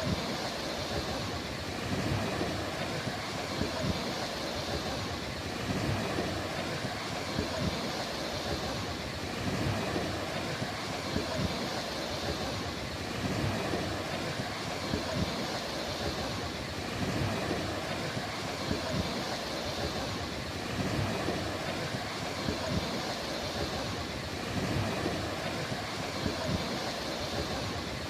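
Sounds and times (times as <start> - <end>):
ocean surf washing on beach: 0.0 - 28.0
wind rumbling on microphone: 0.0 - 28.0.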